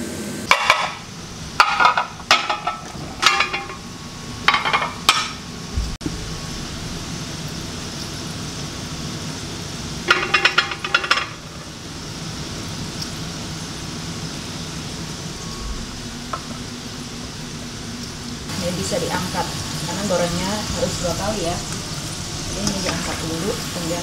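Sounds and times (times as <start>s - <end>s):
fries sizzling in hot oil: 0.0s - 24.0s.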